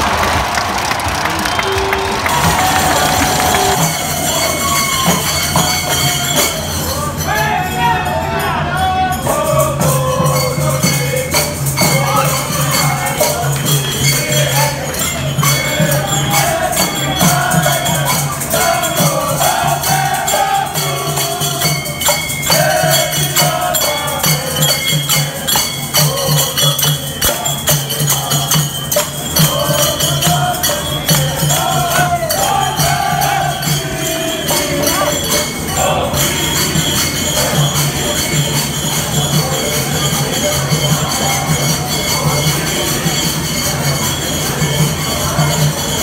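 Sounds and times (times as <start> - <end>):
jingling percussion: 0.0 - 46.0
group singing in unison: 2.3 - 6.7, 8.2 - 46.0.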